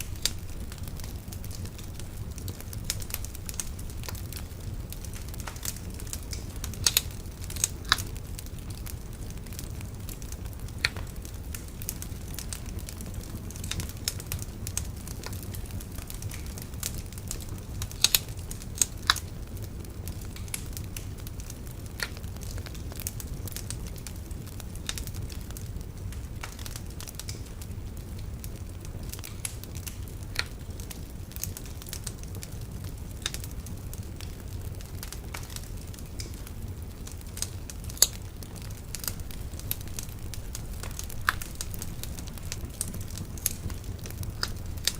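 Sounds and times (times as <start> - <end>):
bonfire crackling and popping: 0.0 - 44.9
fire low rumble: 0.0 - 44.9.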